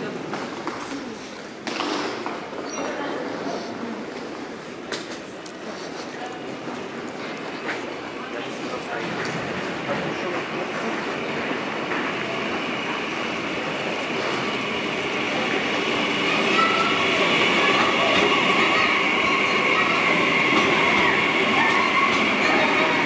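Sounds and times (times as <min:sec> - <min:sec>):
train rumble and hiss: 0:03.2 - 0:23.0.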